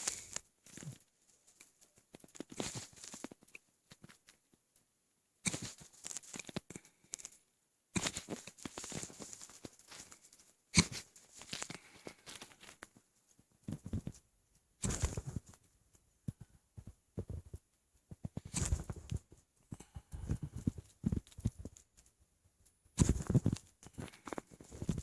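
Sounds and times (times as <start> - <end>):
stomach gurgling and crackling: 0.0 - 4.7, 5.4 - 25.0.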